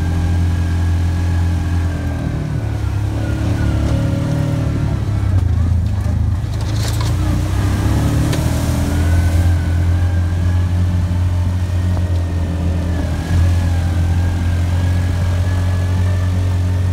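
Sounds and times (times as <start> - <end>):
off-road vehicle engine running: 0.0 - 16.9.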